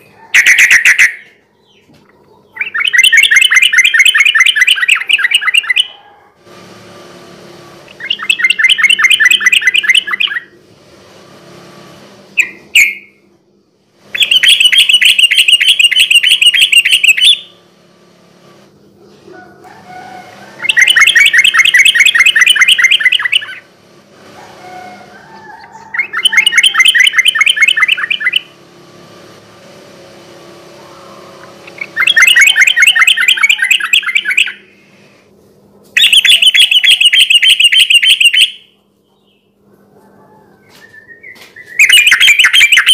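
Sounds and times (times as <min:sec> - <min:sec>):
bird singing rapid rolling song: 0:00.0 - 0:06.0, 0:07.9 - 0:10.7, 0:12.3 - 0:18.0, 0:19.9 - 0:23.8, 0:24.5 - 0:34.8, 0:36.0 - 0:39.6, 0:40.6 - 0:42.9.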